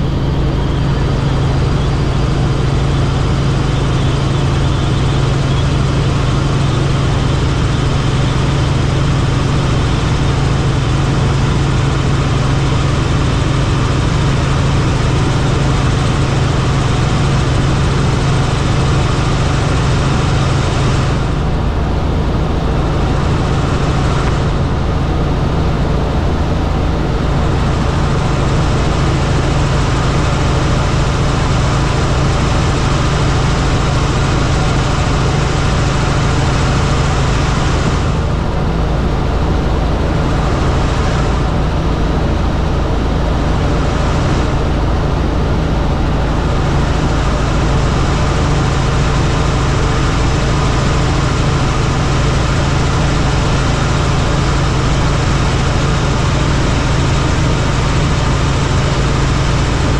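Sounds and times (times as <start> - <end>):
helicopter drone: 0.0 - 59.9.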